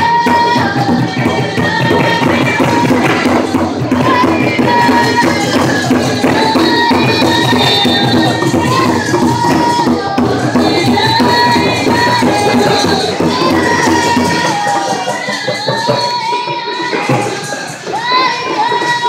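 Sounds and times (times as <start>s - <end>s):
frame drums beating: 0.0s - 19.0s
girls singing together: 0.0s - 19.0s.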